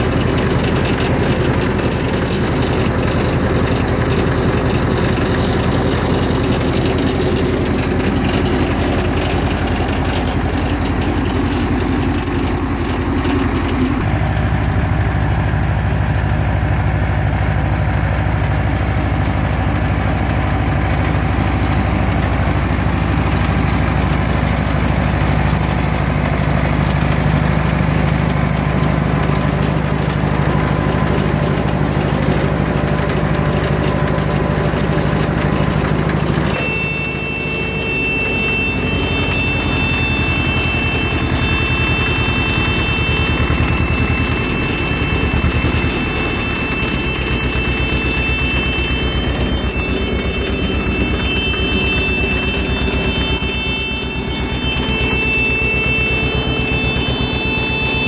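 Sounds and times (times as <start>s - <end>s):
high machinery whine: 0.0s - 58.0s
tractor engine running: 0.0s - 58.0s.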